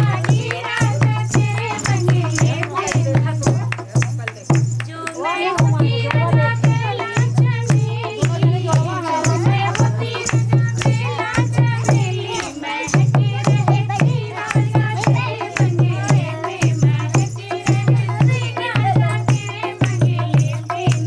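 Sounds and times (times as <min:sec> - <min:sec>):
rattling percussion: 0:00.0 - 0:21.0.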